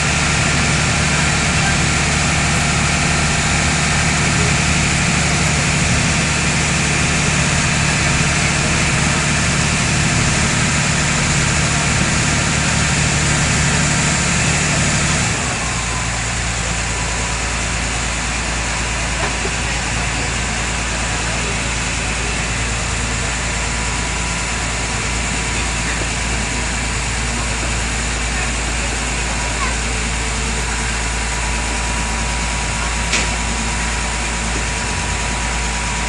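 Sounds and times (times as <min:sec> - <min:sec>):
boat diesel engine drone: 0:00.0 - 0:36.0.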